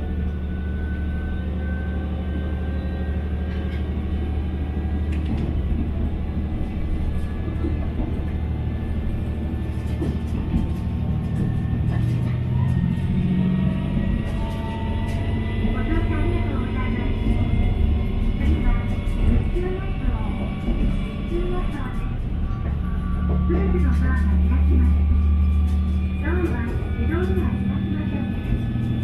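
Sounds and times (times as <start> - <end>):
train rumble: 0.0 - 29.0.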